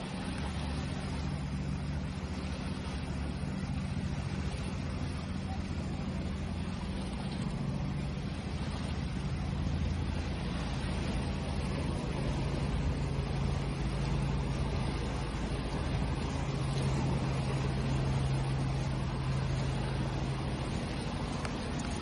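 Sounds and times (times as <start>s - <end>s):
constant low hum: 0.0s - 22.0s
sea waves rushing: 0.0s - 22.0s.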